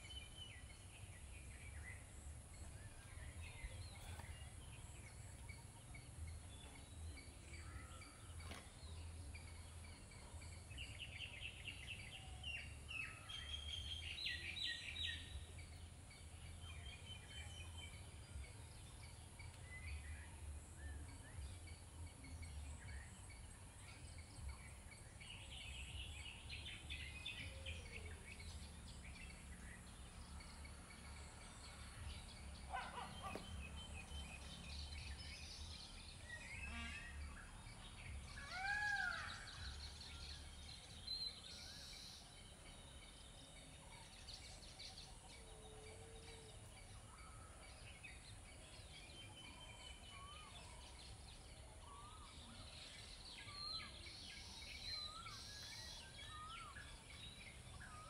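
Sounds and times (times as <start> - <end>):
birds calling and chirping: 0.0 - 58.0.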